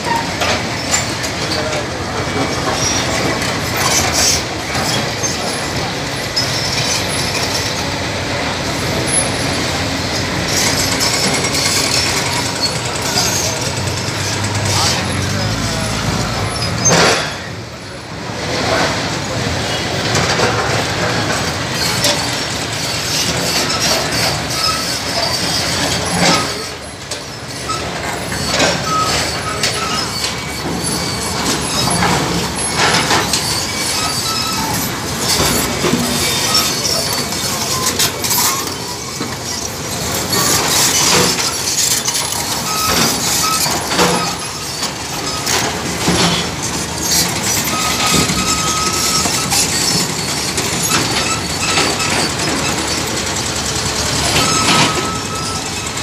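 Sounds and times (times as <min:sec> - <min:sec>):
diesel engines under load: 0:00.0 - 0:56.0.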